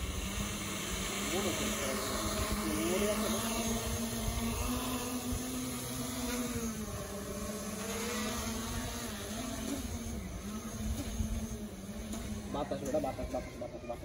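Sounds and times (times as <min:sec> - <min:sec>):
drone propeller whine: 0:00.0 - 0:14.0.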